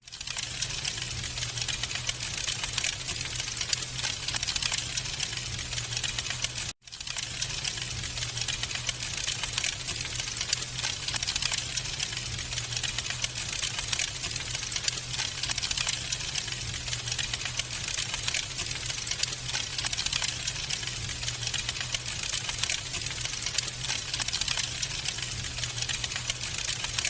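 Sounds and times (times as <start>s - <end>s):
wood fire crackling: 0.1s - 27.0s.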